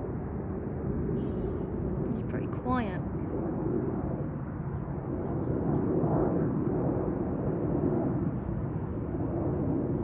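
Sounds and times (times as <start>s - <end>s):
jet airliner rumble overhead: 0.0s - 10.0s.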